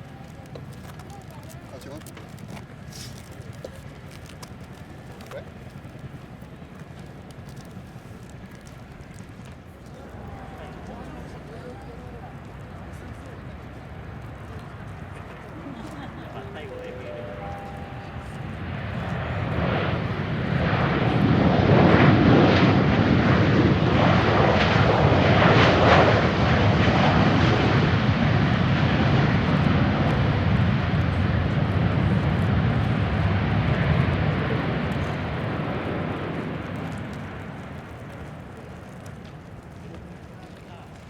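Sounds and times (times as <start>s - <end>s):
jet engines roaring past: 1.9s - 41.0s.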